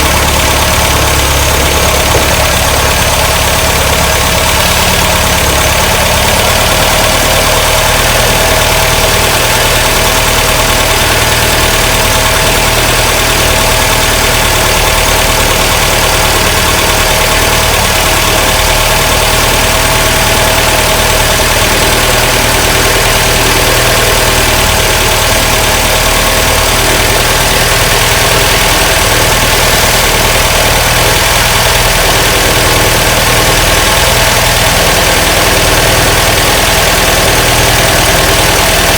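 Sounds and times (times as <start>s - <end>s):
car engine idling lumpy: 0.0s - 38.9s.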